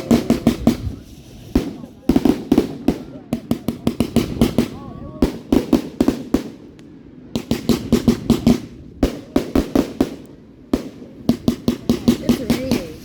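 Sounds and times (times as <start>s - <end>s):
fireworks sharp bangs: 0.0s - 13.0s.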